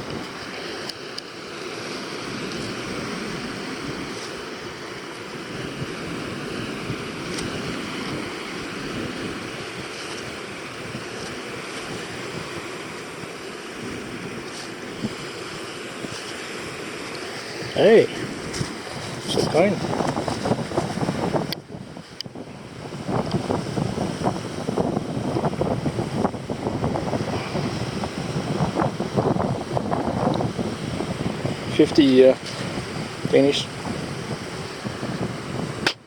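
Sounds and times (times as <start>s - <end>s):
wind noise on microphone: 0.0s - 1.0s, 2.0s - 36.0s.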